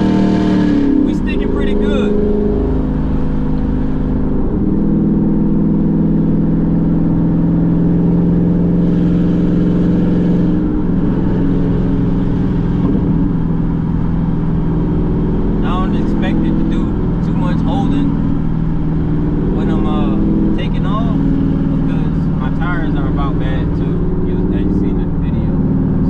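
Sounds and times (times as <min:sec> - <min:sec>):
car engine running: 0:00.0 - 0:26.0
road noise: 0:00.0 - 0:26.0.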